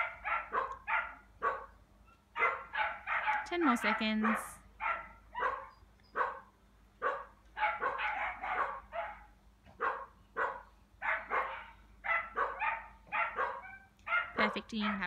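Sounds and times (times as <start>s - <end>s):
dog barking: 0.0s - 1.8s, 2.4s - 15.0s.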